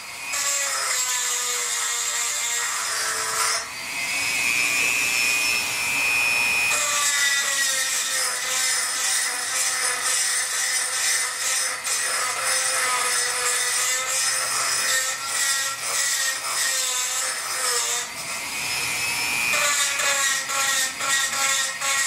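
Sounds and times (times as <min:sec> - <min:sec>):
rotary tool grinding metal: 0:00.0 - 0:22.0.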